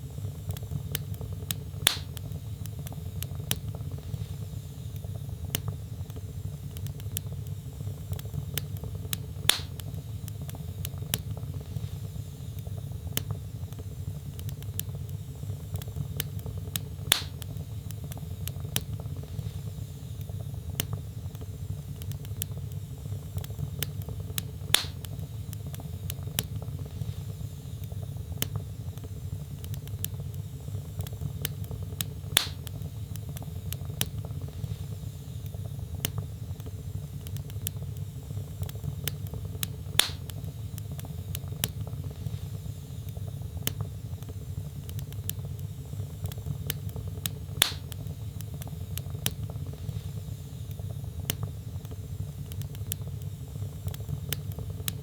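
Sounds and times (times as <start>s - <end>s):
wood fire burning: 0.0s - 55.0s
loud fire pops: 0.3s - 35.0s, 35.7s - 55.0s.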